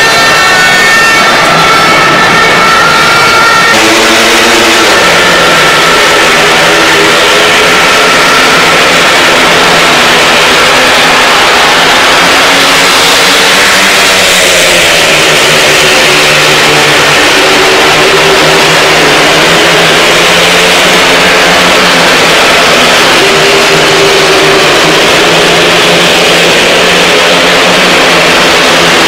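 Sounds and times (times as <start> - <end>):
motorbikes racing: 0.0 - 29.0.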